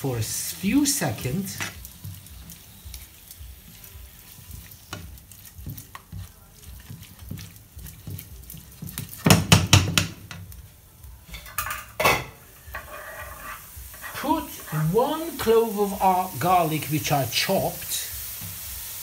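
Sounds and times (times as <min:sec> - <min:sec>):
spatula scraping pan: 0:00.0 - 0:09.7, 0:11.4 - 0:17.2
meat sizzling in frying pan: 0:00.0 - 0:19.0.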